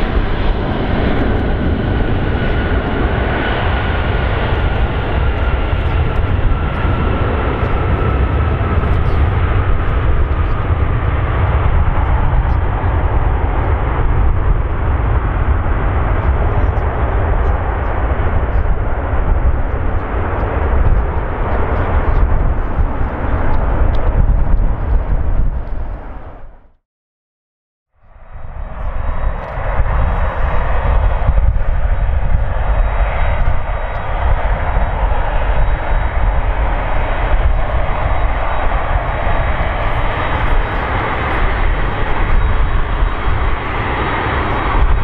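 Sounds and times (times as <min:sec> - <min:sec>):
jet engine roar and whine: 0:00.0 - 0:26.8, 0:28.0 - 0:45.0.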